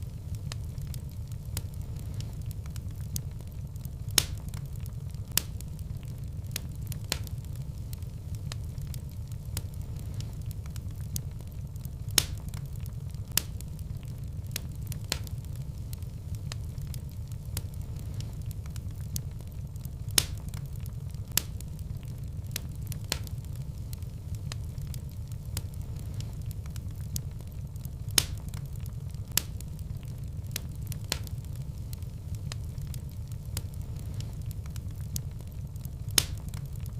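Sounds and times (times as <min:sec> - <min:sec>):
fire crackling: 0:00.0 - 0:36.9
fire pops and snaps: 0:00.0 - 0:36.9.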